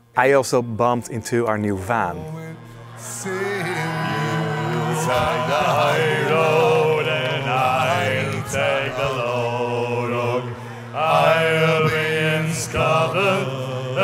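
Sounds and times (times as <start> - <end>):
men singing together: 2.3 - 14.0
steady low drone: 2.4 - 14.0.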